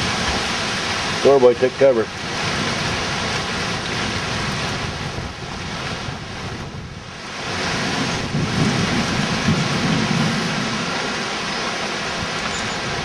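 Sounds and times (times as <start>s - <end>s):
wind buffeting microphone: 0.0s - 11.3s
rain: 0.0s - 13.0s
storm wind gusting: 0.0s - 13.0s.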